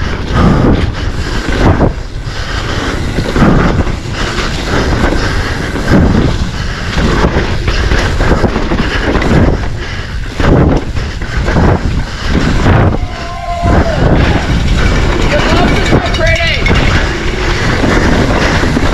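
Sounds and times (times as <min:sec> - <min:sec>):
bike tyres on rough ground: 0:00.0 - 0:18.9
wind buffeting microphone: 0:00.0 - 0:18.9.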